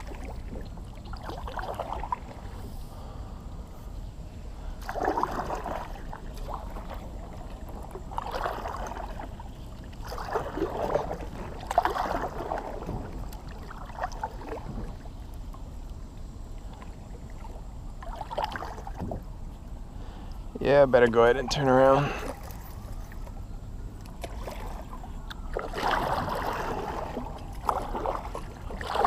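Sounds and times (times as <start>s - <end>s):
paddle strokes in water: 0.0s - 3.2s, 3.8s - 20.3s, 21.2s - 23.4s, 24.0s - 29.0s.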